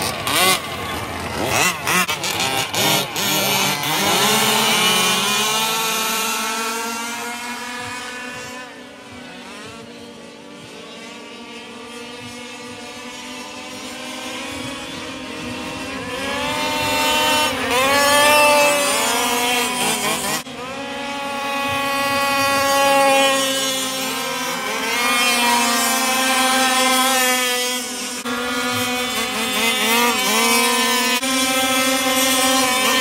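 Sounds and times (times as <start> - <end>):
rc truck motors revving: 0.0 - 33.0.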